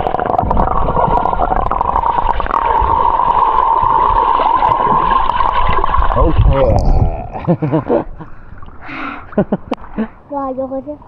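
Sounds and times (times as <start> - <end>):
water gurgling and sloshing: 0.0 - 11.0.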